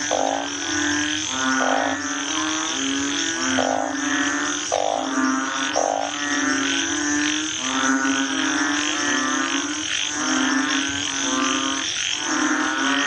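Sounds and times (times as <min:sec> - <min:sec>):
frogs calling in chorus: 0:00.0 - 0:13.0.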